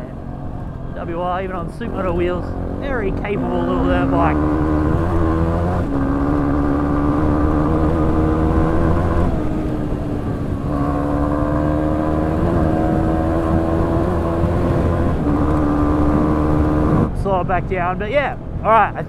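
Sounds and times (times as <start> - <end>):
dirt bike engine running: 0.0 - 17.0
wind and road rush: 0.0 - 19.0.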